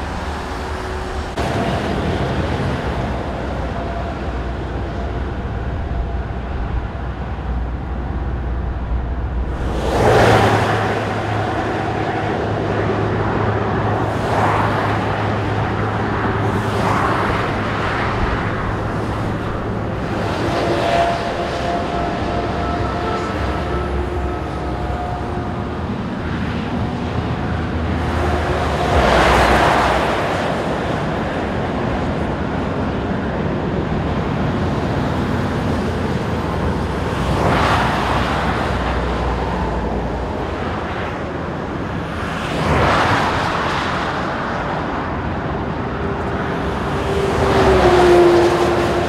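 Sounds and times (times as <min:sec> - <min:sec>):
motorway traffic: 0:00.0 - 0:49.0
vehicles passing close: 0:00.0 - 0:49.0.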